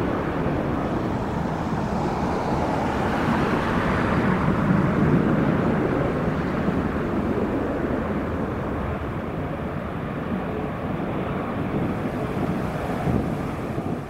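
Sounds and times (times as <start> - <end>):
jet engines at takeoff thrust: 0.0 - 14.0.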